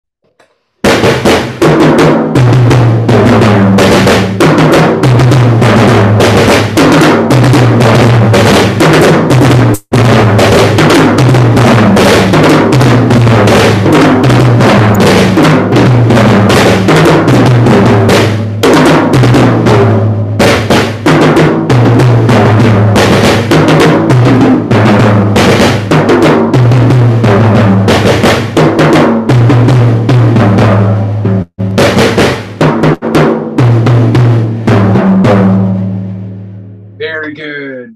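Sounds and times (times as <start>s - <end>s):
fast drum fills on snare and toms: 0.3s - 36.0s
bass drum: 0.4s - 37.9s.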